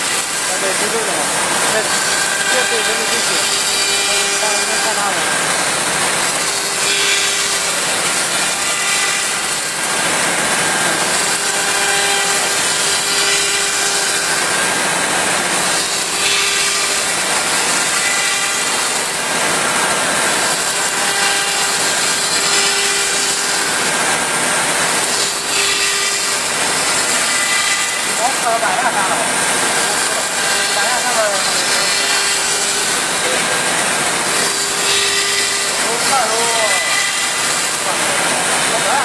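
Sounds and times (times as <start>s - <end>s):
wood router cutting wood: 0.0s - 39.0s.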